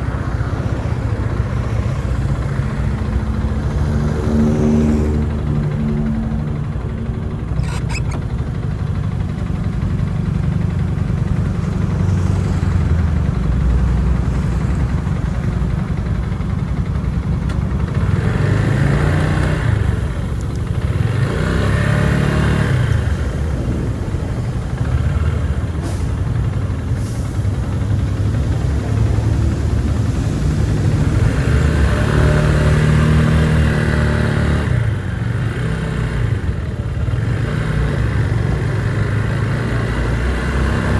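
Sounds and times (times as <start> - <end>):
passing traffic: 0.0 - 40.9
vehicle driving on wet road: 0.0 - 40.9.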